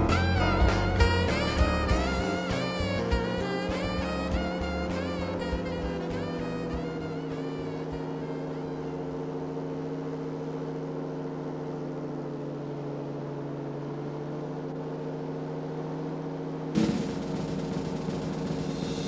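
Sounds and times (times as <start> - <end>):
engine and propeller drone: 0.0 - 19.0.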